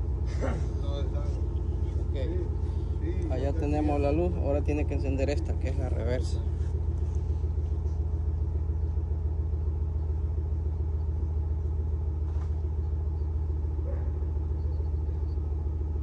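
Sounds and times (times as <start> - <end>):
pickup engine idling: 0.0 - 16.0.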